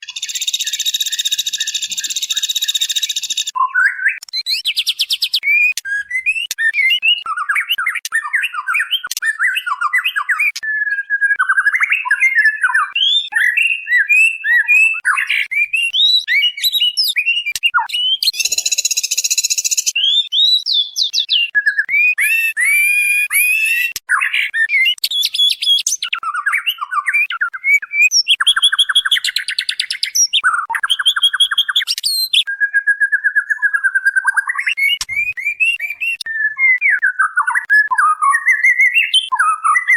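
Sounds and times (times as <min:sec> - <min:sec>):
bird whistling phrases: 0:00.0 - 0:39.9.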